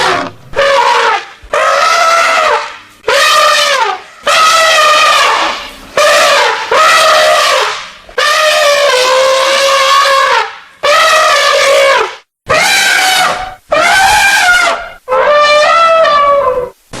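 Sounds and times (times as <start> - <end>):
elephant trumpeting: 0.0 - 16.8.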